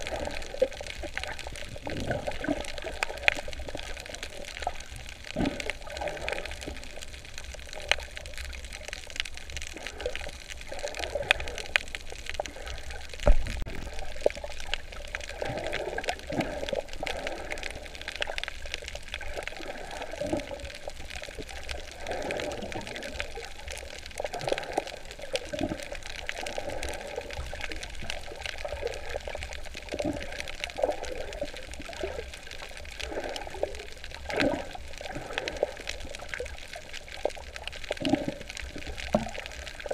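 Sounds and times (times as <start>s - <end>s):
water sloshing and bubbling: 0.0s - 39.9s.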